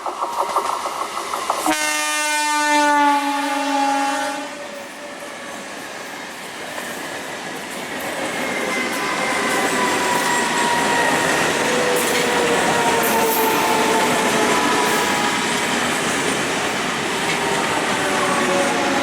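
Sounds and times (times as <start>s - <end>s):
train wheels rolling on rail: 0.0s - 19.0s.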